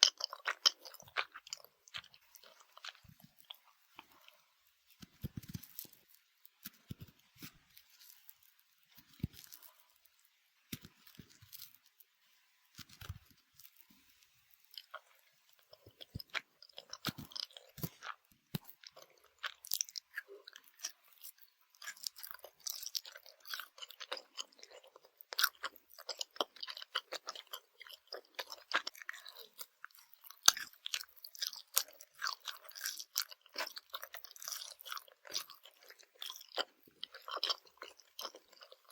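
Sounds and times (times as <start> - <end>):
chewing gummy candy: 0.0 - 12.1, 12.8 - 38.9.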